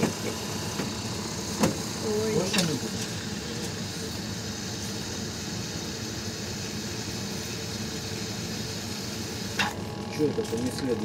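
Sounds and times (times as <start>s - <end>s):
mechanical humming with hiss: 0.0s - 11.0s.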